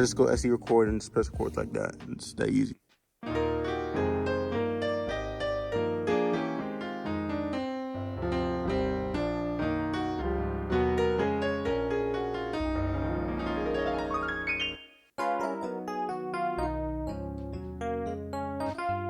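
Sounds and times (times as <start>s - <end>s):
keyboard playing piano chords: 3.2s - 19.0s.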